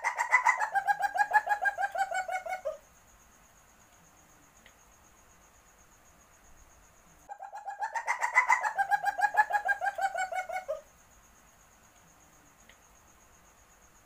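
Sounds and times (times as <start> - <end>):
faint high insect-like tone: 0.0 - 14.0.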